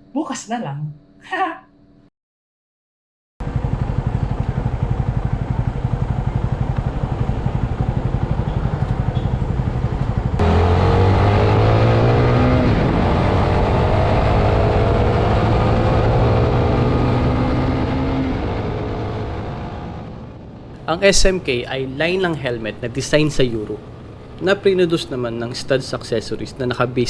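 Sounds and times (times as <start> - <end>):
motorcycle engine running: 3.4 - 27.0.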